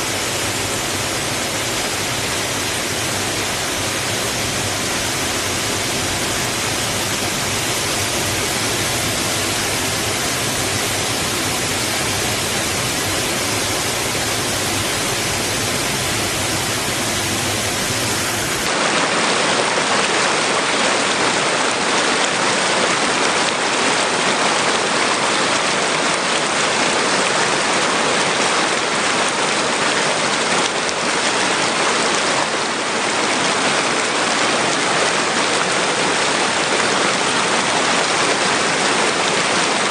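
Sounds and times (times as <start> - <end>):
water rushing against rocks: 0.0 - 39.9.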